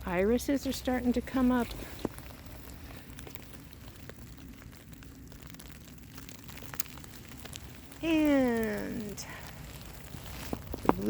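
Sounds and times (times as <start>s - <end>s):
snow pellets ticking on umbrella: 0.0s - 11.0s.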